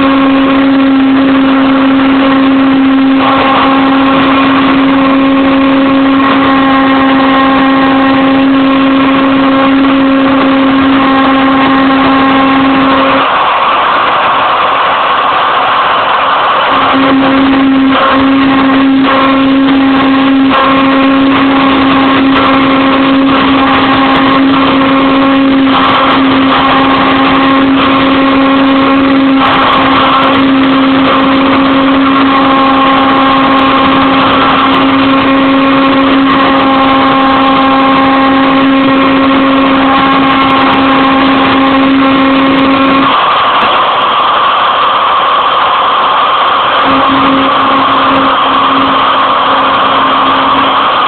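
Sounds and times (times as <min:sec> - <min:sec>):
cnc mill spindle cutting: 0:00.0 - 0:51.0
steady whine: 0:00.0 - 0:51.0.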